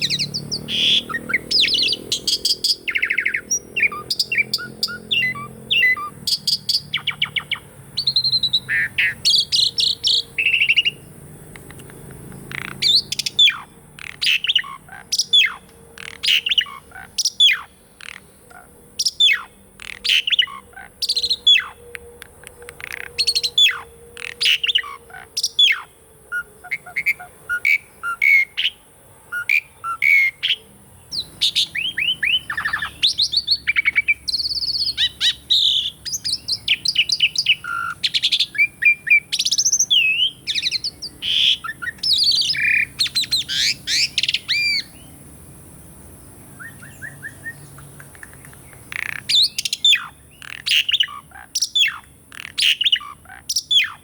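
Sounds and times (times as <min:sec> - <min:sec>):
sharp falling bird calls: 0:00.0 - 0:45.2, 0:46.5 - 0:54.0
starling singing: 0:00.0 - 0:45.2, 0:46.5 - 0:54.0.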